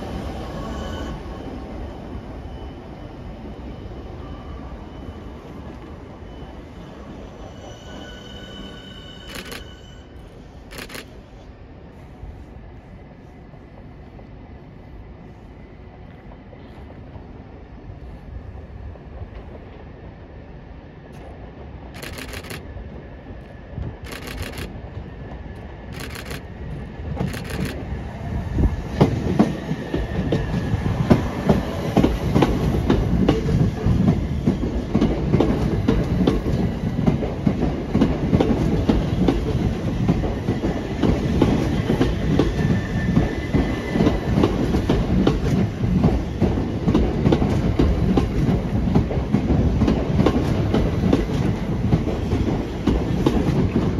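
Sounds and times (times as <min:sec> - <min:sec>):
electric train running past: 0:00.0 - 0:53.9.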